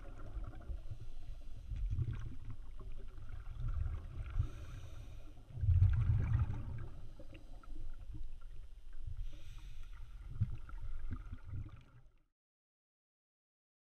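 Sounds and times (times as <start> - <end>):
faint ticks and crackles: 0.0 - 12.1
underwater rumble of water: 0.0 - 12.3.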